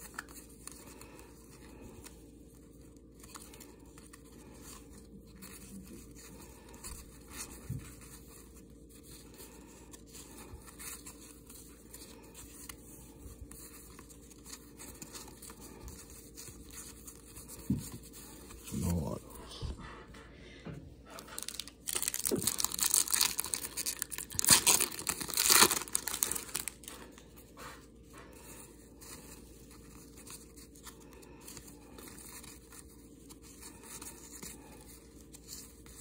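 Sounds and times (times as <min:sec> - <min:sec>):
cards shuffling and rustling: 0:00.0 - 0:19.2, 0:21.1 - 0:36.0.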